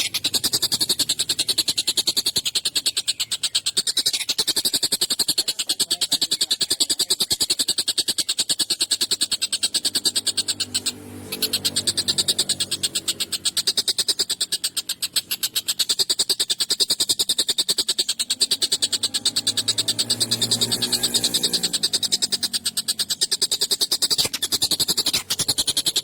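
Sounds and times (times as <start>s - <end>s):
kingfisher harsh chattering call: 0.0s - 26.0s.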